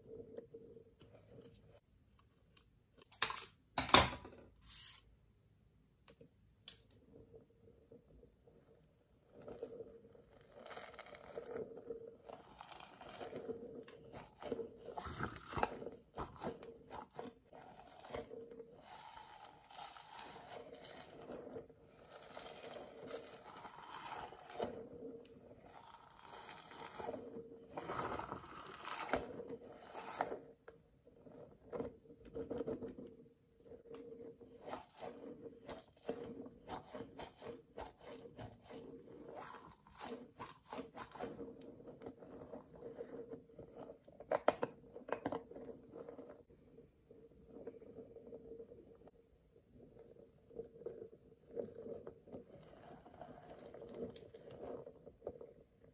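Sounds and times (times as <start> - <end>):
rubber ball crackling and squishing: 6.3 - 55.9.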